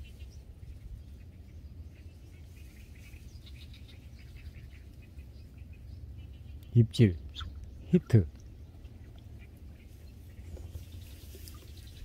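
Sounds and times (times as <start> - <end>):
low steady rumble: 0.0 - 12.0
small bird chirping: 0.0 - 12.0.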